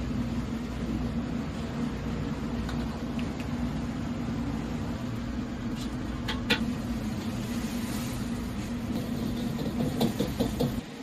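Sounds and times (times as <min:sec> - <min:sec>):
gas wok burner roaring: 0:00.0 - 0:11.0.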